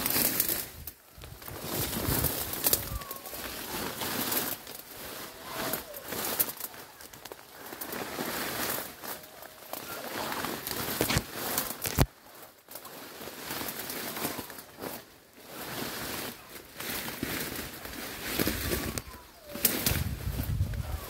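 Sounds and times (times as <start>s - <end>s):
branch cracking: 0.0s - 21.0s
leaves and branches rustling: 0.0s - 21.0s.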